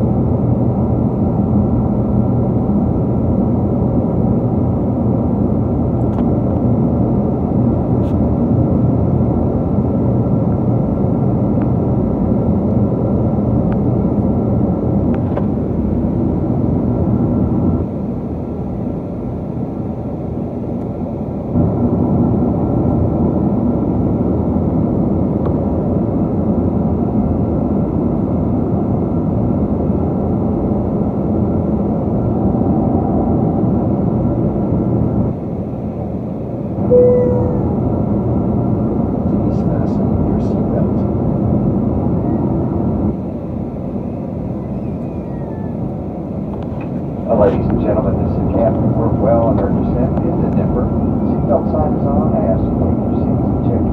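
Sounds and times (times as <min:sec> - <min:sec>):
jet engine cabin noise: 0:00.0 - 0:53.9.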